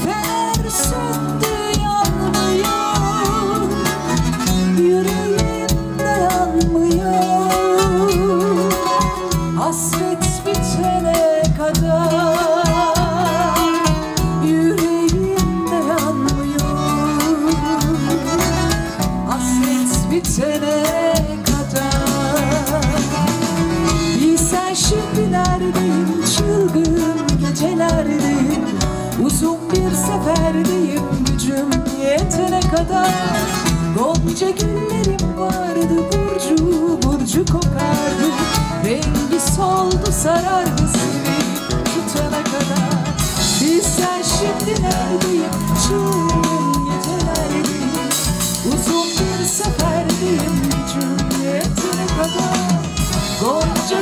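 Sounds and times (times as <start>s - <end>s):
live band instrumental music: 0.0s - 54.0s.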